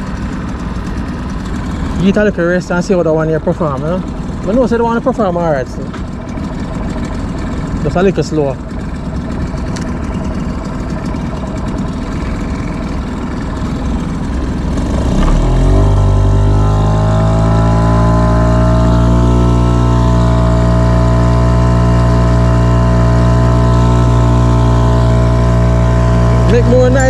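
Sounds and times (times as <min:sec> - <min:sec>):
outboard motor revving: 0:00.0 - 0:27.0.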